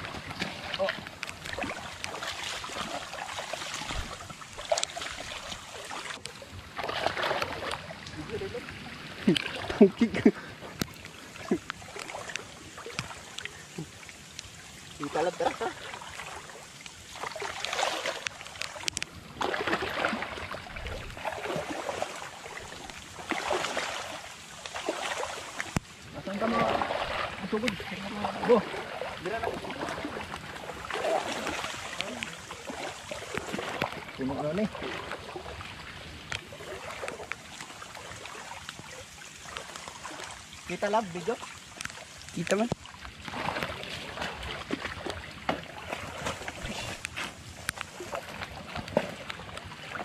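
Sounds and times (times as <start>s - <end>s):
boots splashing through water: 0.0s - 13.3s, 15.1s - 35.6s, 36.2s - 50.0s.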